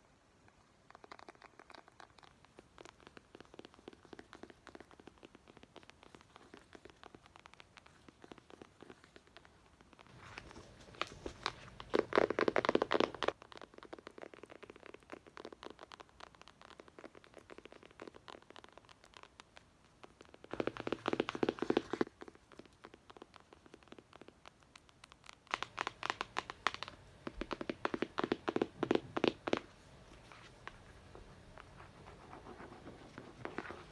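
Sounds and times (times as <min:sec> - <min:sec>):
scratching and tapping on a book: 0:00.8 - 0:33.9.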